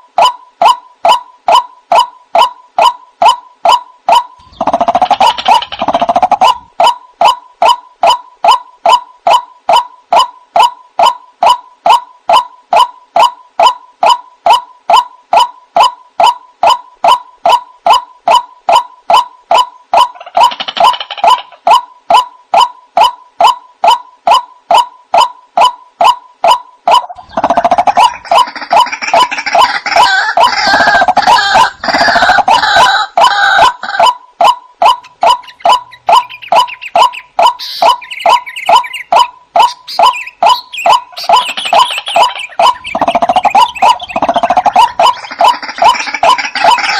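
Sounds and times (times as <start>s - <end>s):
waterhen calling hoarse notes: 0.2s - 46.9s.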